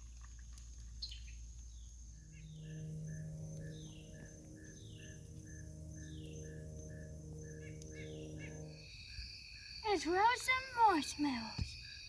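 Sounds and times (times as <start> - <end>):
low steady hum: 0.0 - 11.8
crickets and insects chirring: 0.0 - 12.0
falling chirps: 1.8 - 11.6.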